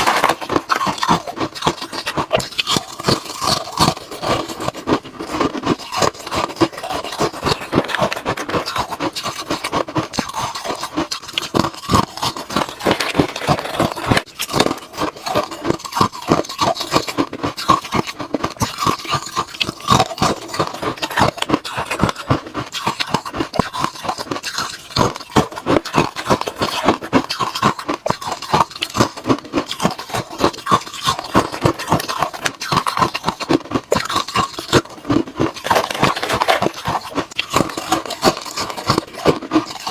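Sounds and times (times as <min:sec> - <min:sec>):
ice cubes crunched by teeth: 0:00.0 - 0:39.9.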